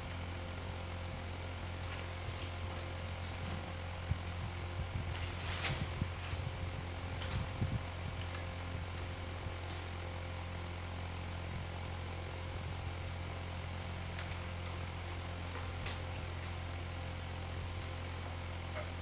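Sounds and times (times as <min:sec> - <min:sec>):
low hum with faint hiss: 0:00.0 - 0:19.0.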